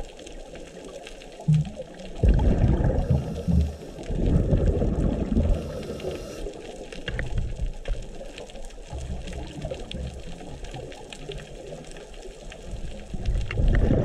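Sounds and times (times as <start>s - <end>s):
underwater exhaust bubbles: 0.0s - 14.0s.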